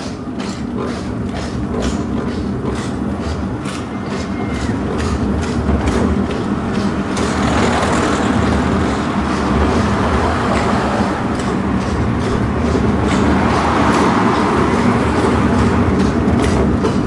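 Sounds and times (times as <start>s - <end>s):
sharp clicks and knocks: 0.0s - 17.0s
tram wheels rumbling on rails: 0.0s - 17.0s.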